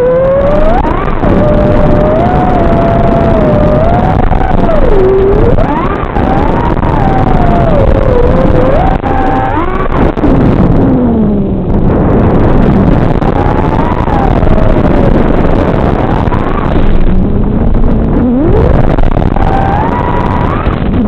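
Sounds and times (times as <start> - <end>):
drone motors whining: 0.0 - 21.0
rushing noise: 0.0 - 21.0.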